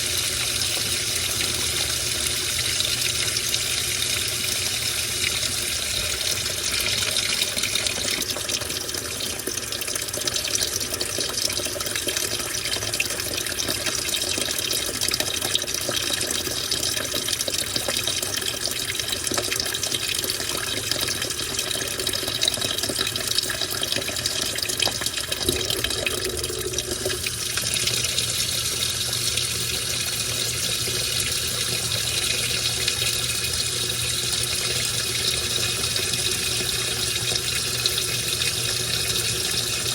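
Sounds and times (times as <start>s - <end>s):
washing machine motor hum: 0.0s - 39.9s
water churning in washing machine: 0.0s - 39.9s.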